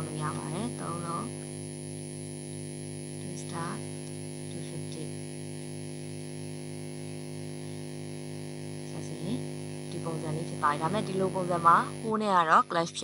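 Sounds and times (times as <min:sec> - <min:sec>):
electrical hum and buzz: 0:00.0 - 0:13.0.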